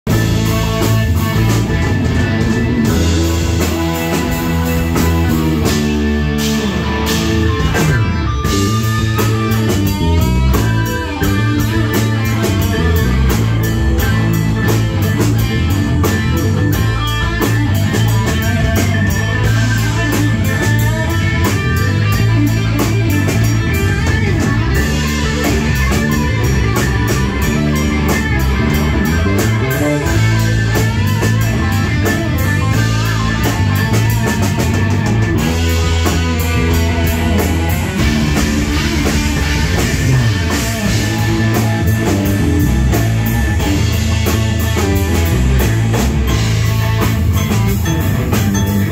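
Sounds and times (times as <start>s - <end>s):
drum kit beat: 0.0s - 48.9s
electric guitar: 0.0s - 48.9s.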